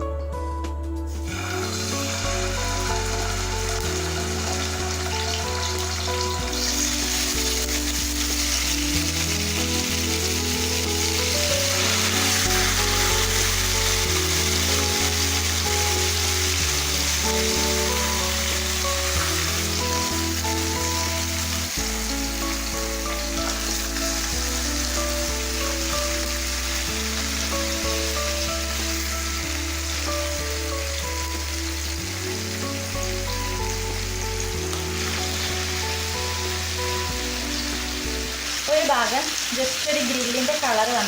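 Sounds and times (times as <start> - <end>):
background music: 0.0 - 41.0
chicken sizzling in hot oil: 1.1 - 41.0.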